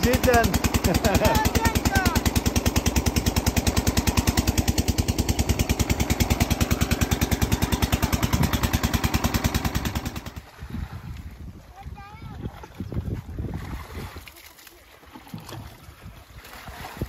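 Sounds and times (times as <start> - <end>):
water pump engine putt-putt: 0.0 - 17.0.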